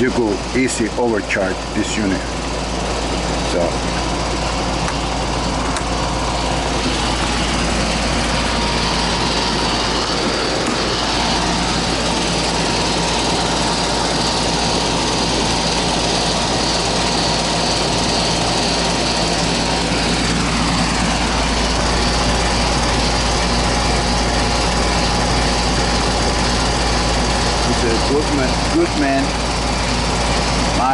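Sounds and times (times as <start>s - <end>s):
compressor humming: 0.0s - 30.9s
condenser fan rushing: 0.0s - 30.9s.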